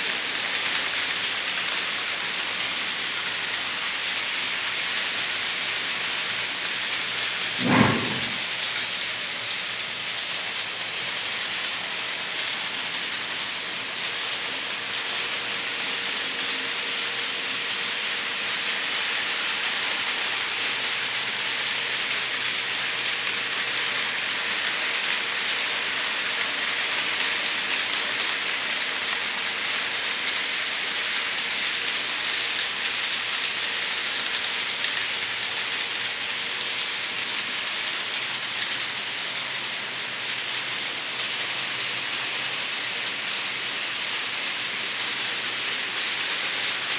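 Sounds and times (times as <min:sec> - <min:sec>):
model train wheels on rails: 0:00.0 - 0:46.9.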